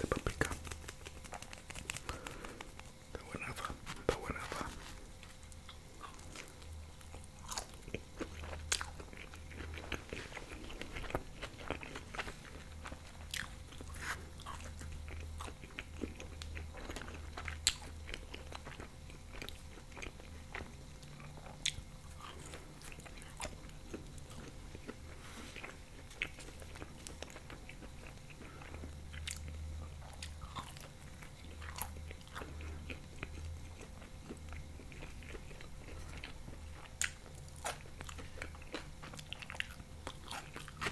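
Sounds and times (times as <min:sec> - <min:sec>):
person chewing pizza: 0:00.0 - 0:40.9.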